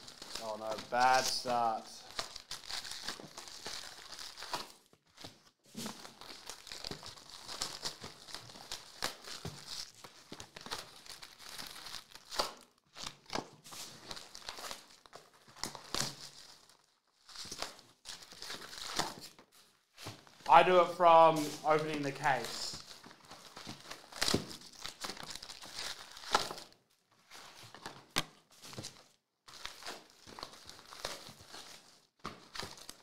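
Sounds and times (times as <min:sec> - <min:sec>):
foil wrappers crinkling and tearing: 0:00.0 - 0:33.0.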